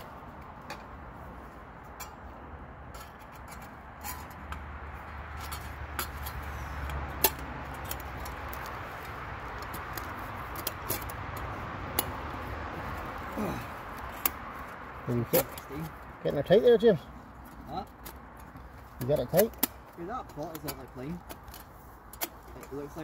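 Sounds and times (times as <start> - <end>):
distant traffic hiss: 0.0 - 23.0.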